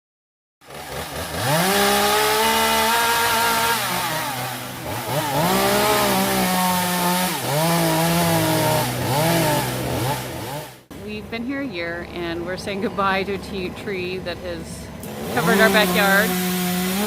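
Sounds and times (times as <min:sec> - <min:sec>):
chainsaw running: 0:00.6 - 0:11.0, 0:12.8 - 0:17.0.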